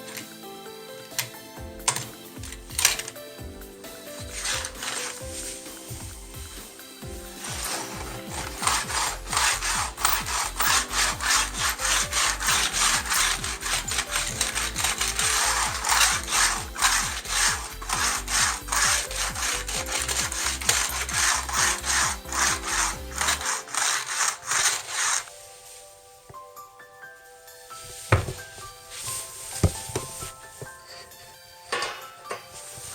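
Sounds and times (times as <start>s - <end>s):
soft background music: 0.0s - 32.9s
hand saw strokes: 1.0s - 3.2s, 3.8s - 26.0s, 27.7s - 32.9s.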